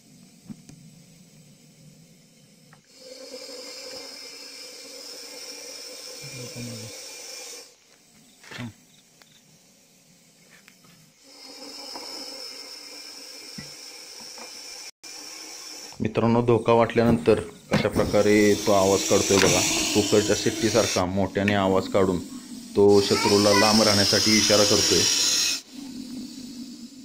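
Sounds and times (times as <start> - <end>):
snake hissing: 0.0 - 16.1, 18.0 - 27.0.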